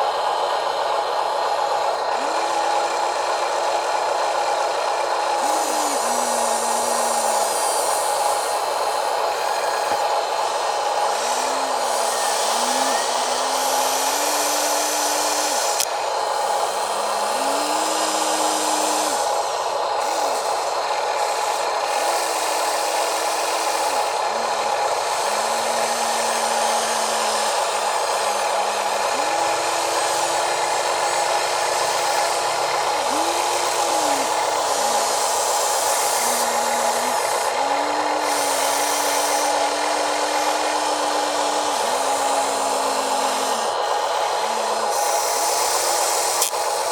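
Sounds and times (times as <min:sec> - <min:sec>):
electric motors whirring: 0:00.0 - 0:46.9
low motor hum changing pitch: 0:01.9 - 0:19.6, 0:24.1 - 0:46.5.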